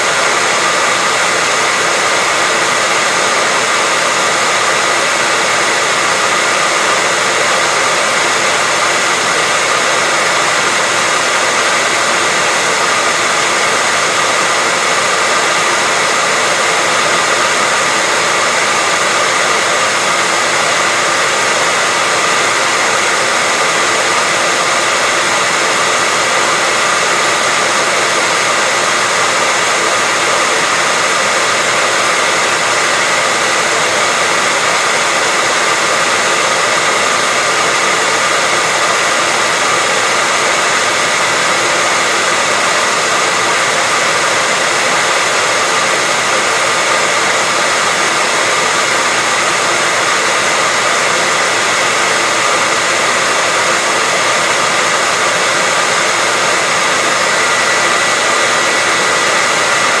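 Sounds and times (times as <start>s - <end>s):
hair dryer running: 0.0s - 60.0s.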